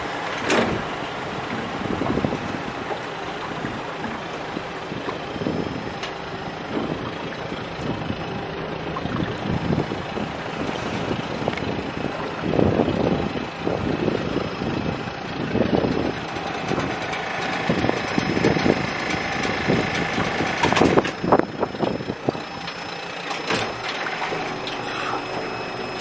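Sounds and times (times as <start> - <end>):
small boat engine running: 0.0 - 26.0
wind buffeting microphone: 0.5 - 22.7.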